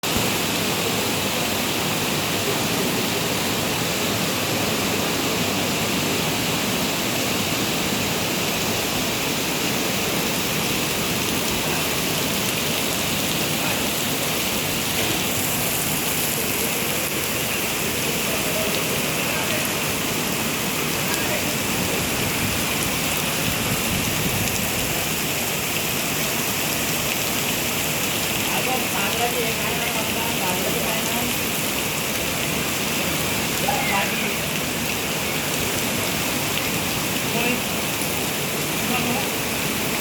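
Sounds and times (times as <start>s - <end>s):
rain falling steadily: 0.0s - 40.0s.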